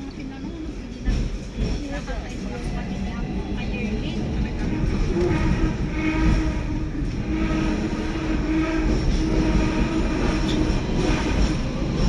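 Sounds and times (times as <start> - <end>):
tram rumbling with humming tone: 0.0 - 12.0.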